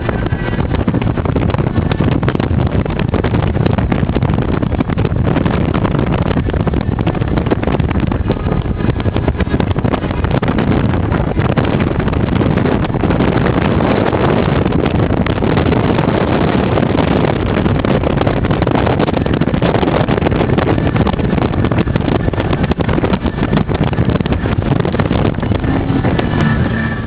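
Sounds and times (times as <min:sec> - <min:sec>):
boat engine and water rush: 0:00.0 - 0:27.0
wind buffeting microphone: 0:00.0 - 0:27.0.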